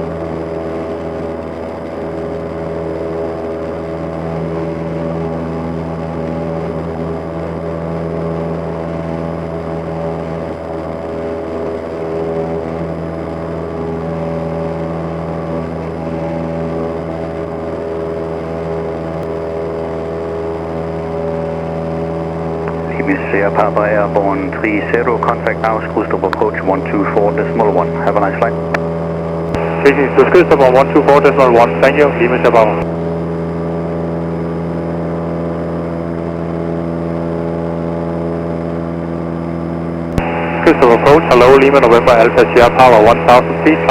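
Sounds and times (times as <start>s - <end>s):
airplane propeller engine drone: 0.0s - 43.9s.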